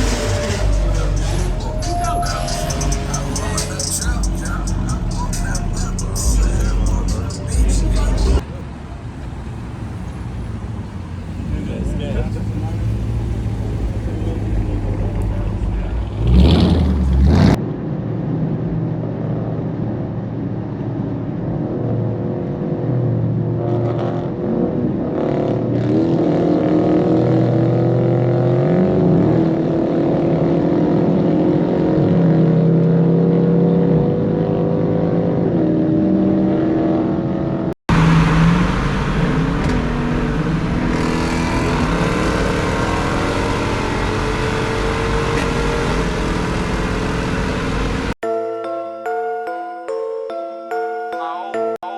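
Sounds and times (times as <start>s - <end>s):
car engines idling and revving: 0.0s - 48.2s.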